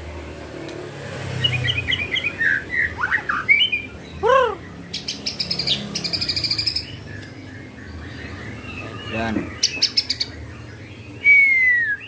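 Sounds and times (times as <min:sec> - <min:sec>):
songbird singing: 0:00.7 - 0:12.0.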